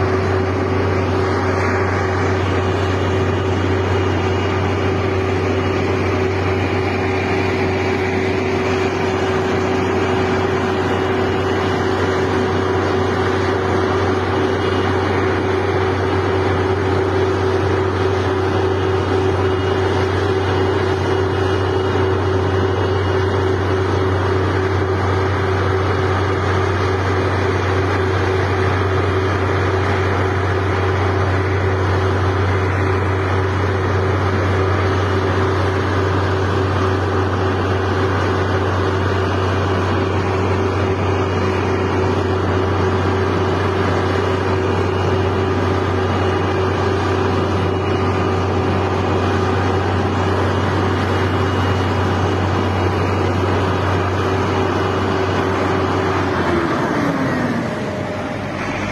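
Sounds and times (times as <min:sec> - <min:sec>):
vehicle engine droning: 0:00.0 - 0:58.9.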